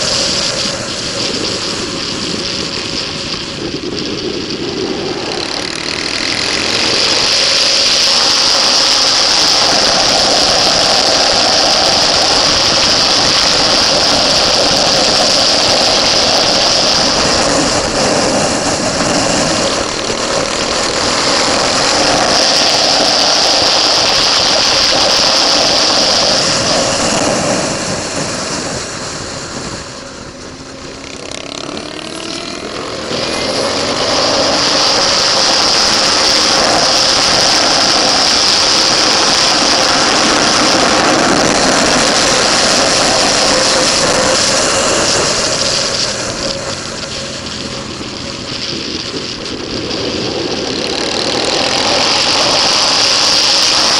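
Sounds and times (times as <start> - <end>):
motorcycle engine at speed: 0.0 - 53.9
wind rushing: 0.0 - 53.9.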